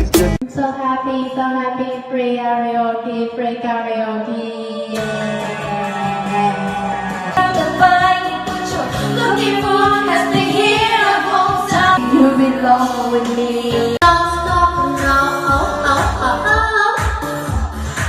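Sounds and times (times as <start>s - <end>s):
pop song with female singer: 0.0s - 18.0s.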